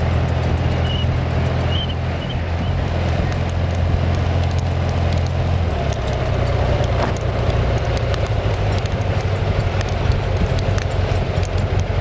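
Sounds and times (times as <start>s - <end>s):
light rattle of small clicks: 0.0s - 12.0s
motorcycle engine running: 0.0s - 12.0s.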